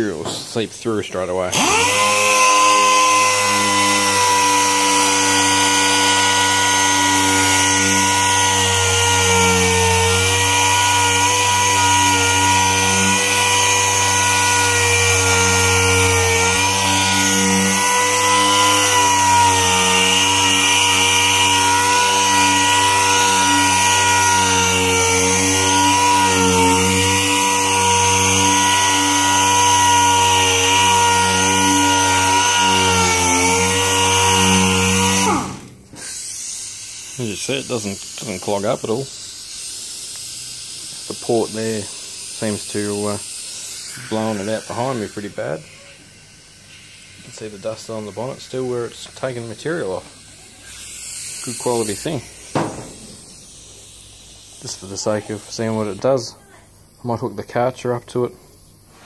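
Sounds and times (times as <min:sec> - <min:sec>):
orbital sander whining: 0:01.2 - 0:39.1, 0:40.8 - 0:53.8.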